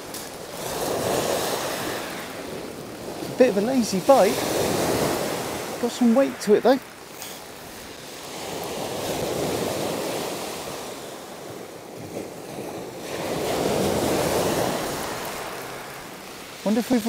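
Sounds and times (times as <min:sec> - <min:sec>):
surf breaking on shingle beach: 0:00.0 - 0:17.0.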